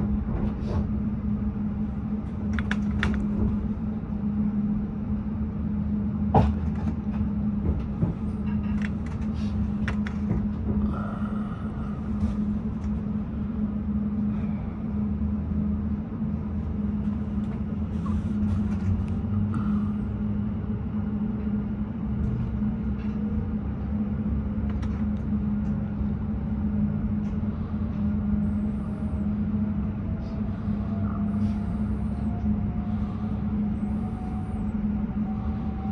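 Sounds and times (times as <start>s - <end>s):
train rumbling along track: 0.0s - 35.9s.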